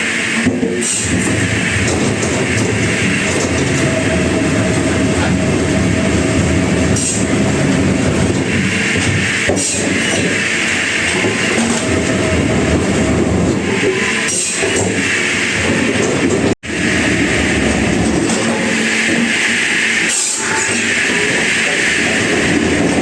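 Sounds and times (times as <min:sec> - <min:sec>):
sawmill machinery running: 0:00.0 - 0:23.0.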